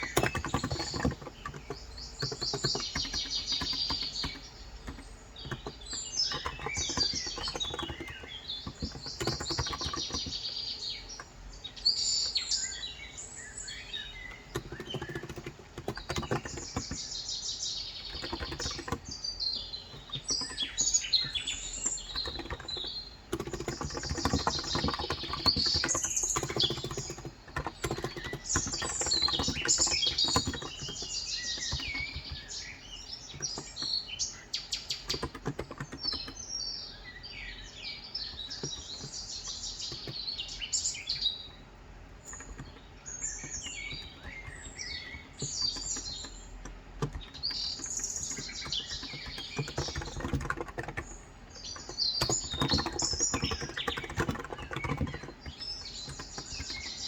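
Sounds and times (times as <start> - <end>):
keyboard typing clicks: 0.0 - 11.4, 13.6 - 17.2, 17.8 - 36.4, 37.9 - 41.4, 42.2 - 57.0
birds chirping and singing: 0.0 - 57.0.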